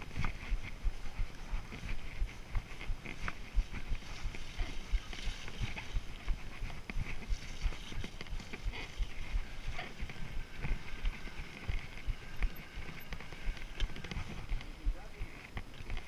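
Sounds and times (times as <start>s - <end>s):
bike rattling over bumps: 0.0s - 16.0s
tyre noise: 0.0s - 16.0s.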